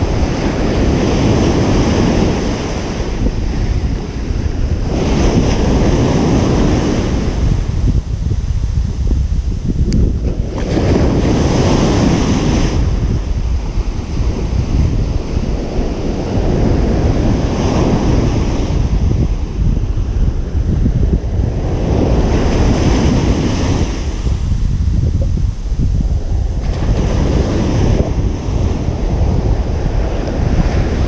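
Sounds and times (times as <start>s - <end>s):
waves breaking on beach: 0.0s - 31.0s
wind rumble on microphone: 0.0s - 31.0s.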